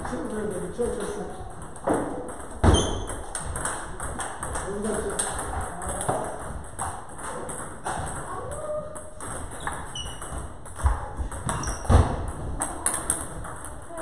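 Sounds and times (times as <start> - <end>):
table tennis balls clicking: 0.0 - 14.0.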